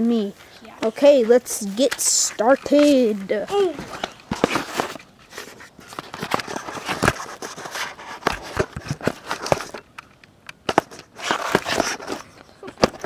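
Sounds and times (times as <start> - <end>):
handling clicks and rustling: 0.4 - 13.0.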